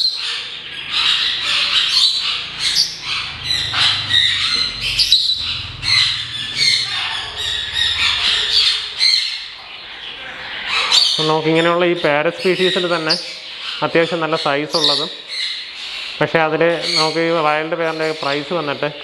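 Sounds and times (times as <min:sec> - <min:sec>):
parrots squawking and chirping: 0:00.0 - 0:19.0.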